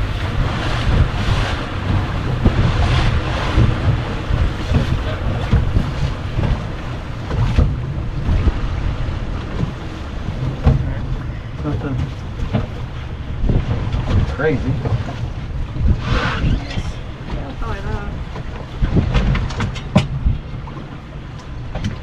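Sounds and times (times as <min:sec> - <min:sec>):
water slapping boat hull: 0:00.0 - 0:22.0
wind buffeting microphone: 0:00.0 - 0:22.0.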